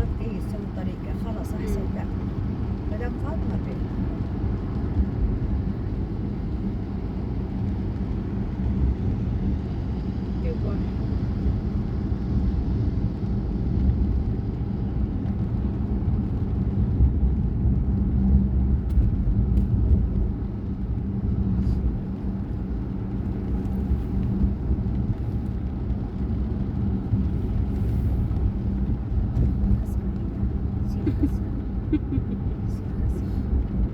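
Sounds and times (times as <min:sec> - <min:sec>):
car cabin engine and road rumble: 0:00.0 - 0:33.9.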